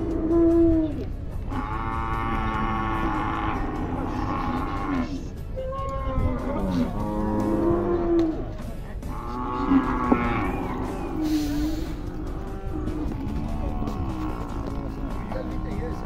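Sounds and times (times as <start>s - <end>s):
cattle mooing: 0.0s - 16.0s.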